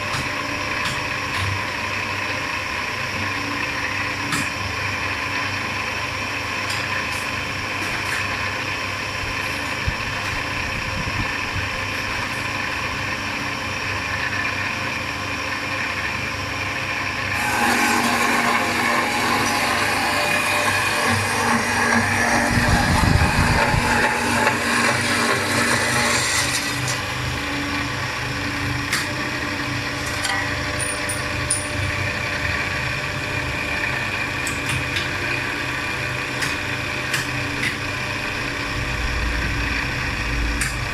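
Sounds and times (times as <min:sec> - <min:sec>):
cutting machine hum and whine: 0:00.0 - 0:40.9.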